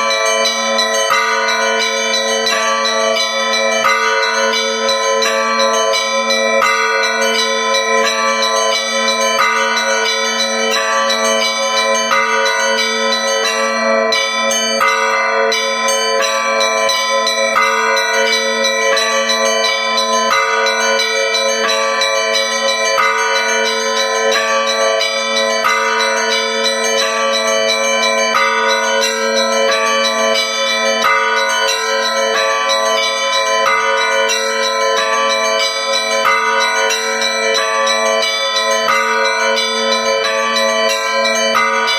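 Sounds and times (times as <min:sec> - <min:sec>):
large bells humming: 0:00.0 - 0:41.9.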